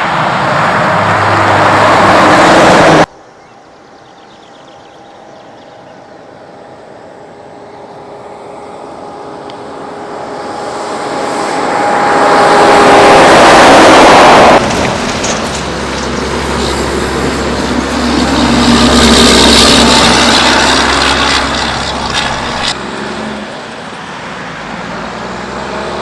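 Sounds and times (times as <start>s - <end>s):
heavy truck passing: 0.0s - 3.1s, 6.2s - 26.0s
truck engine rumble: 0.0s - 3.1s, 6.0s - 26.0s.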